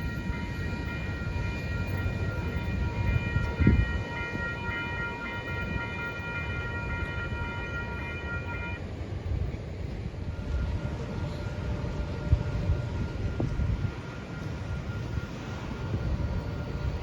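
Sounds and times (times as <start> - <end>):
high-pitched ringing tones: 0.0 - 8.9, 10.3 - 17.0
train rumbling past: 0.0 - 17.0.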